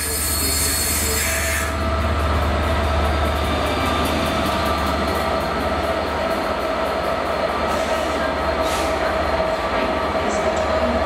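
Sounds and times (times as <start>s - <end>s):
diesel locomotive engine hum: 0.0s - 11.0s
wheels rumbling on rail: 0.0s - 11.0s.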